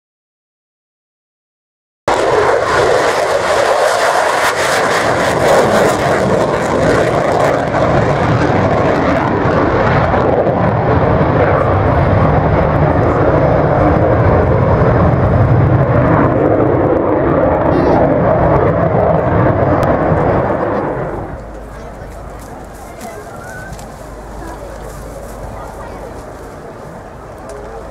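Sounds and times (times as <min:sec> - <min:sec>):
jet engine roar: 0:02.1 - 0:27.9.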